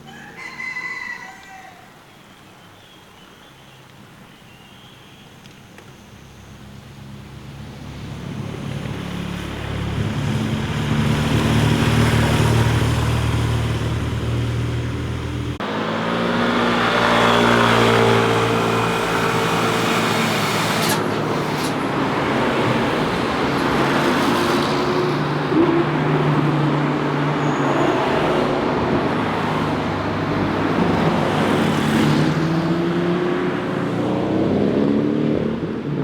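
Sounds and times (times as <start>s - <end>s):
motorcycle engines passing: 6.4s - 36.0s.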